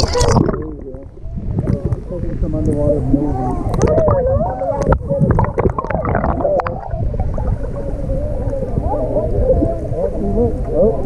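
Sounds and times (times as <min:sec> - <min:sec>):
muffled rumble of moving water: 0:00.0 - 0:11.0
muffled warbling voices: 0:00.0 - 0:11.0.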